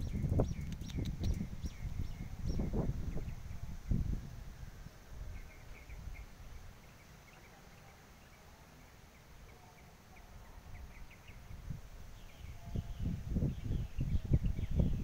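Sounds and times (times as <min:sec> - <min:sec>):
small birds chirping: 0:00.0 - 0:03.7, 0:04.8 - 0:15.0.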